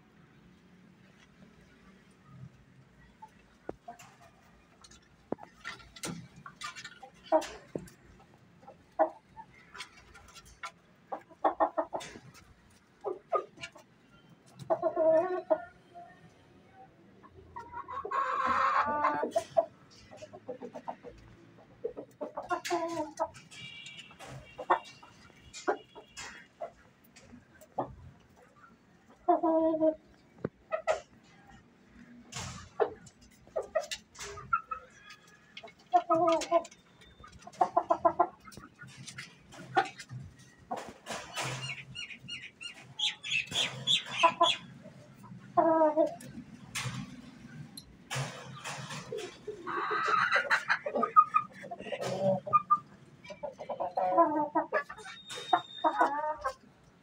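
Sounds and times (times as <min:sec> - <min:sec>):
chickens clucking: 0:00.4 - 0:57.0.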